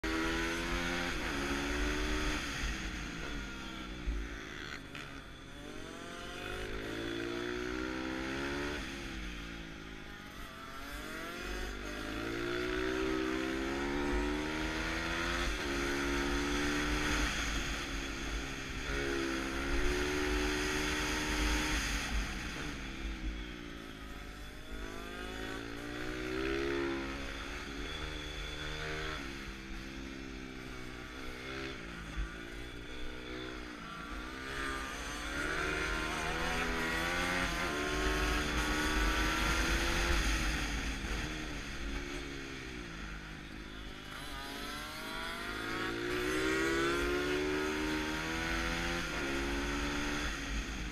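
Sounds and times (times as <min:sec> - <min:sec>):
motorbike engine revving: 0:00.0 - 0:50.9.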